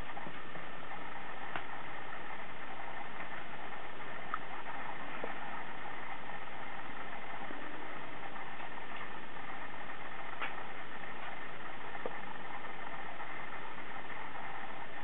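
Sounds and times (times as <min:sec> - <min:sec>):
steady hum or hiss: 0:00.0 - 0:15.0.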